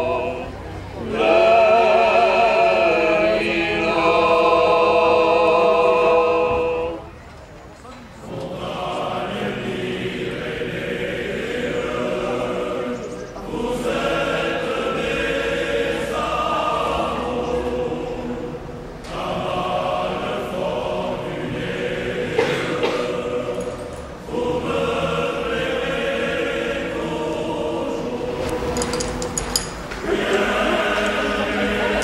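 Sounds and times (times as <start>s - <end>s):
choir singing: 0.0s - 7.2s, 8.2s - 32.0s.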